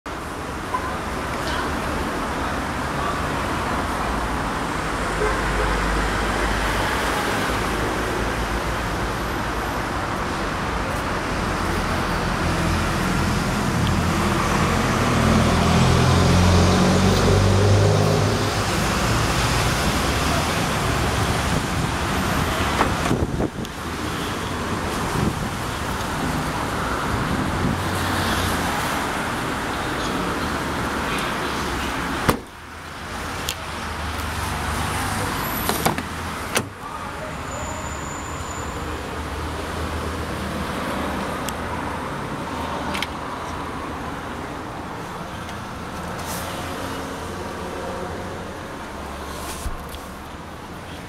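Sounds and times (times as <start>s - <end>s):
road traffic rumble: 0.1s - 51.0s.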